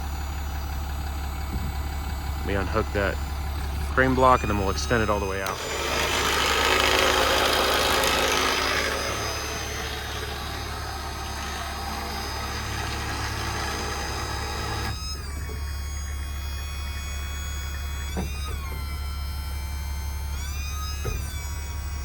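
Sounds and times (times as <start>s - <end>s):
diesel engine idling: 0.0s - 22.0s
whirring machine noise: 0.0s - 22.0s.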